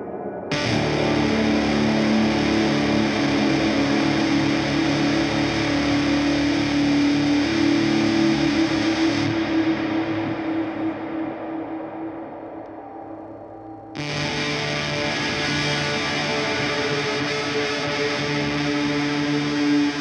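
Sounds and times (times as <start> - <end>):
band playing noisy drone music: 0.5 - 13.3, 13.9 - 20.0.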